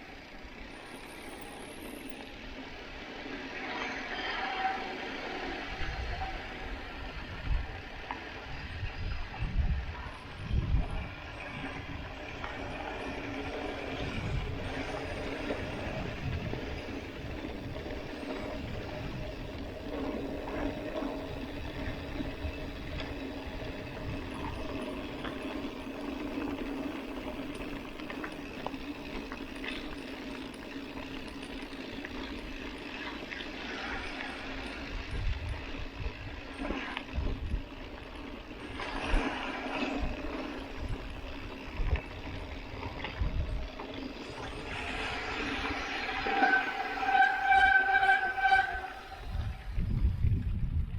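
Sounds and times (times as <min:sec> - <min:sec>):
bike tyres on dirt road: 0:00.0 - 0:50.9.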